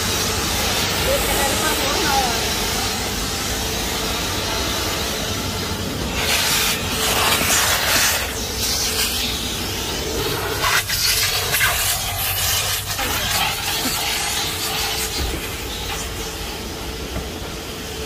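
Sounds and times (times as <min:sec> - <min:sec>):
vacuum hissing: 0:00.0 - 0:18.0.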